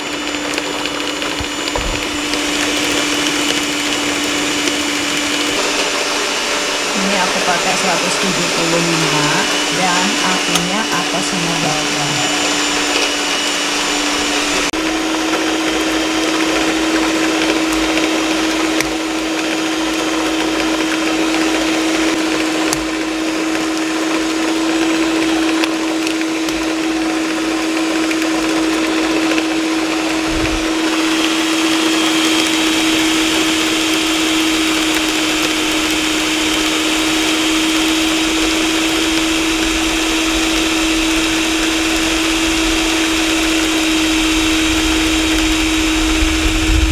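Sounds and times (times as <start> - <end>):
electric hand mixer whirring: 0.0 - 46.9.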